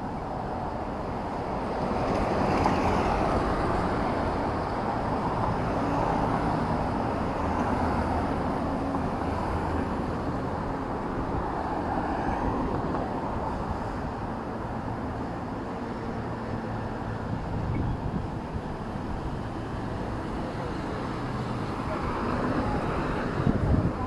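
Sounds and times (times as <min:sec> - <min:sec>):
vehicles passing on street: 0:00.0 - 0:24.0.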